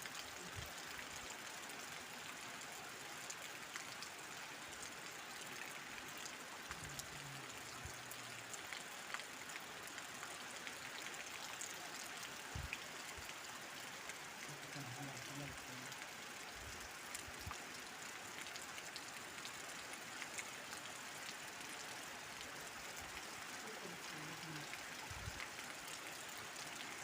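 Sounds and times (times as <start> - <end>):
heavy rain: 0.0 - 27.0.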